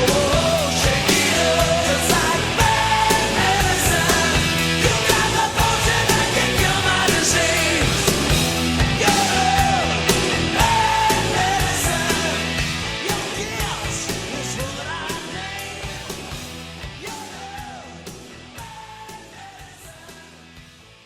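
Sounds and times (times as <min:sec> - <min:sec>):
rock song with vocals and drums: 0:00.0 - 0:21.0.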